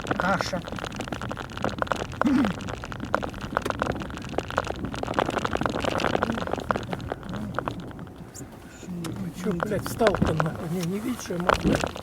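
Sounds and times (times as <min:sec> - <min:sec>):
road noise inside car: 0:00.0 - 0:12.0
snow grains pattering on car: 0:00.0 - 0:12.0.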